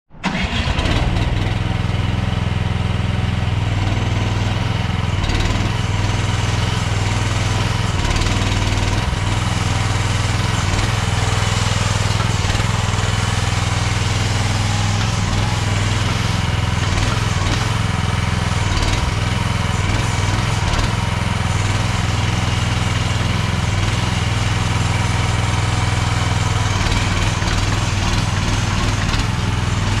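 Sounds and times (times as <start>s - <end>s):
mini excavator engine running: 0.2s - 30.0s.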